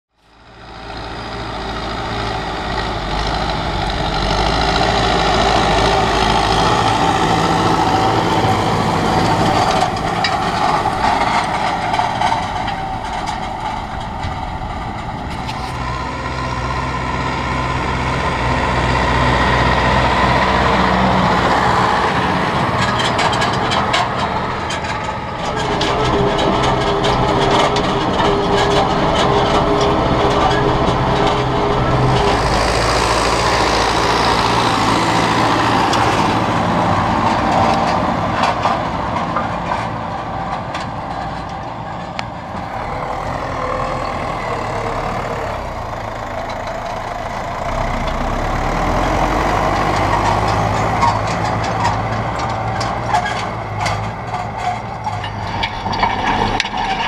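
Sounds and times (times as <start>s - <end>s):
tractor diesel engine: 0.1s - 57.0s.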